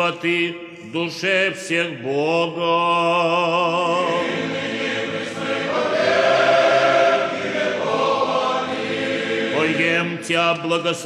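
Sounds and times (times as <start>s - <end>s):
male choir chanting in held chords: 0.0s - 11.0s.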